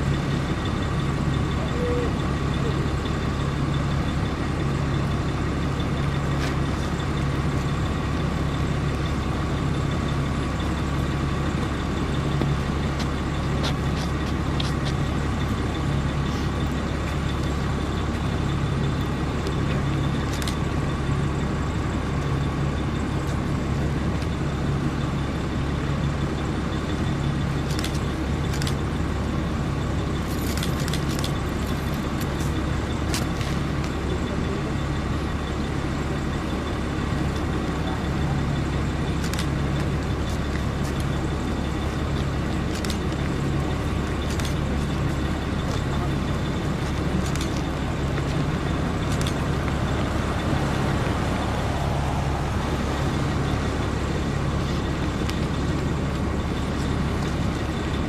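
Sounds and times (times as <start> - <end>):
heavy vehicle engine idling: 0.0 - 58.0.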